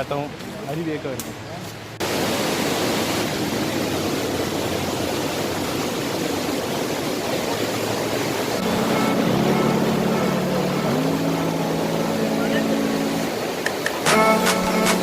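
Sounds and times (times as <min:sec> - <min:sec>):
rushing stream and waterfall: 0:00.0 - 0:15.0.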